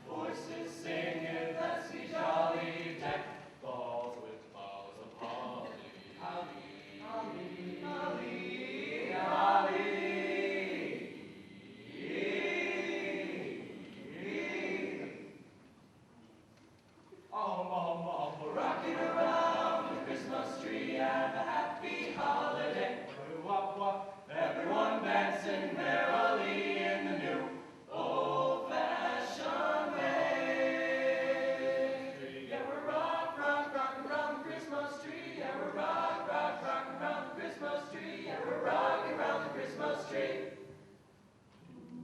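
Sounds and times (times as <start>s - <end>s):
choir singing: 0.0s - 15.5s, 17.4s - 40.8s.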